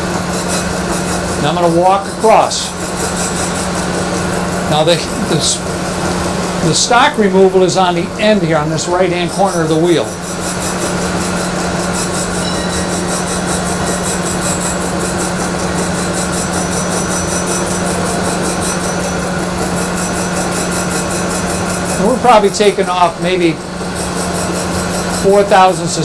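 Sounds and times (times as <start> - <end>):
grinder grinding steel shaft: 0.0 - 26.0.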